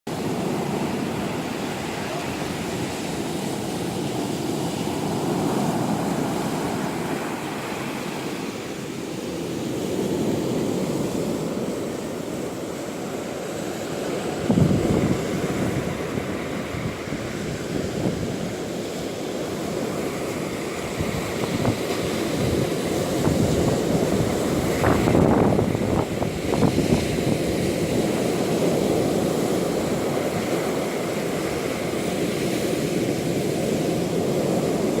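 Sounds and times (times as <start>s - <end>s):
waves breaking: 0.1s - 35.0s.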